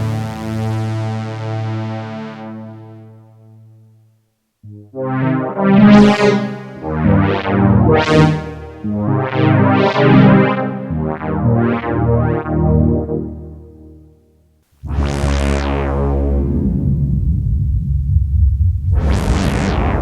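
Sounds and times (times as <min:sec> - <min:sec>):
synthesizer chords: 0:00.0 - 0:03.2, 0:04.9 - 0:13.7, 0:14.8 - 0:20.0.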